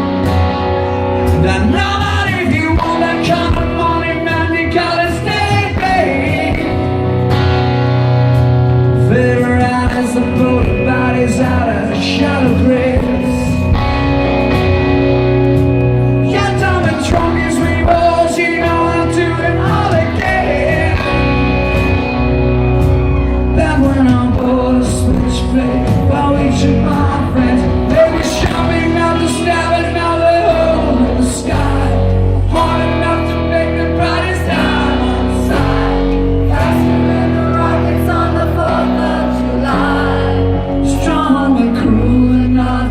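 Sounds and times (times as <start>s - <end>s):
electric guitars: 0.0s - 42.9s
rock band playing live: 0.0s - 42.9s.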